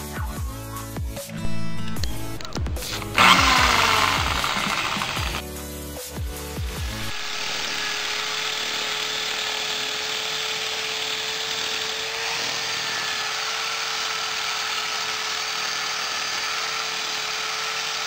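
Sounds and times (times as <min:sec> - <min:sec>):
electric drill motor whine: 0:01.4 - 0:05.5, 0:06.6 - 0:18.0
trimmer line cutting grass: 0:02.1 - 0:05.5, 0:06.6 - 0:18.0.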